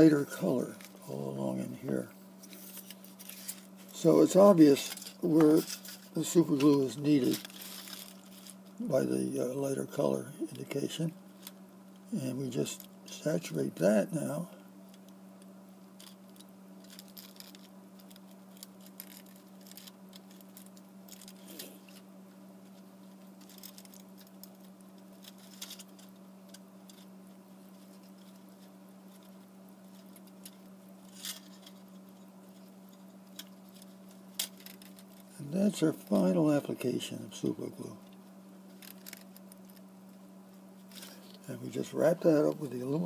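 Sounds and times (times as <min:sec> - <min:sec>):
steady low hum: 0:00.0 - 0:43.0
faint clicks and rustles: 0:00.3 - 0:08.8, 0:14.8 - 0:36.3, 0:37.8 - 0:43.0.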